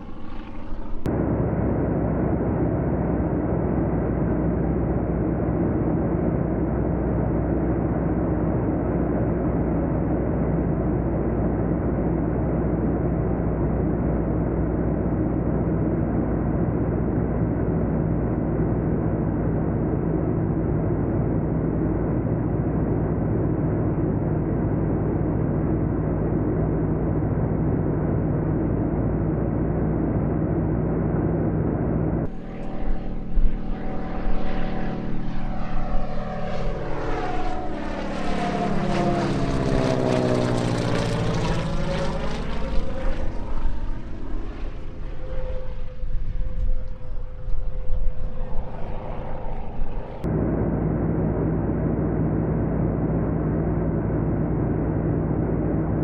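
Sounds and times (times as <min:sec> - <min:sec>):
propeller plane flying past: 0:00.0 - 0:56.0.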